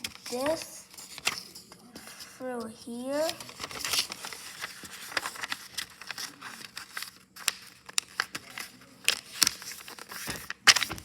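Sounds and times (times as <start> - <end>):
paper crinkling and folding: 0.0 - 2.4, 3.0 - 11.0.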